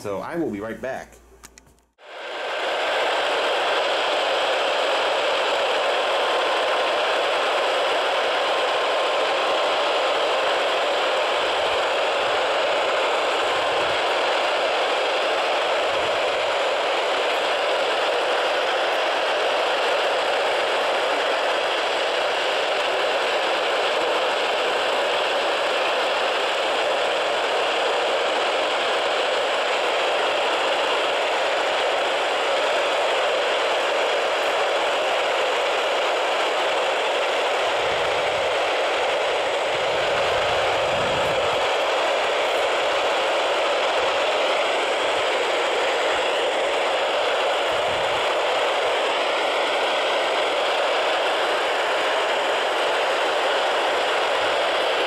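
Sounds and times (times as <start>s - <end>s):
radio static hiss: 2.0s - 55.0s.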